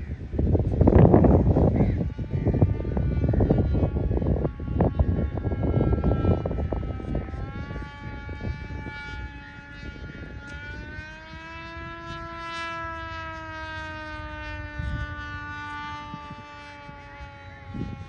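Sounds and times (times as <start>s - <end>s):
rc aircraft motor whine: 0.0s - 18.0s
wind rumbling on microphone: 0.0s - 18.0s.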